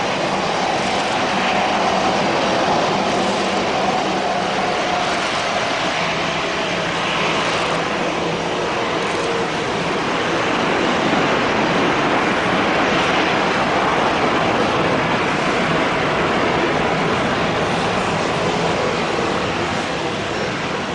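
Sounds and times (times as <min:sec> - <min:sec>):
jet engines roaring: 0:00.0 - 0:20.9.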